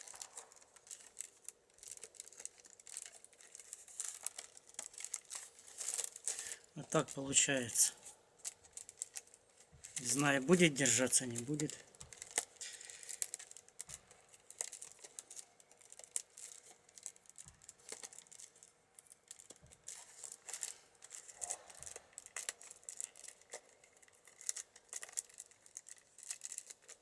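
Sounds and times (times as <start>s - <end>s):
wicker rod rustling and scraping: 0.0s - 27.0s.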